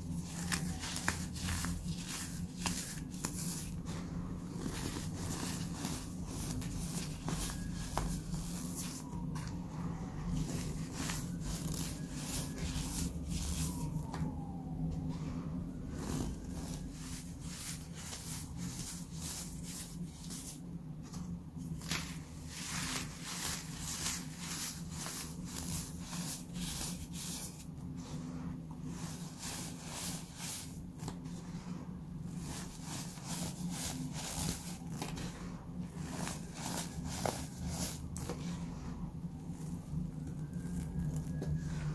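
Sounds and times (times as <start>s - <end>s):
powder sifting: 0.0s - 41.9s.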